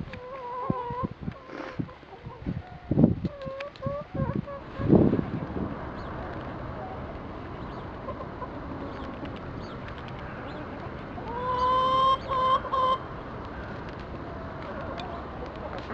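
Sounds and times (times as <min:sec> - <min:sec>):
low steady background noise: 0:00.0 - 0:15.9
chicken calling: 0:00.1 - 0:04.9, 0:06.0 - 0:15.9.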